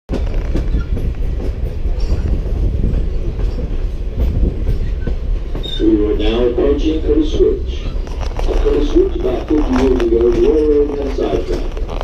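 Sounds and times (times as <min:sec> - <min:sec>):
train rumbling on track: 0:00.1 - 0:12.0.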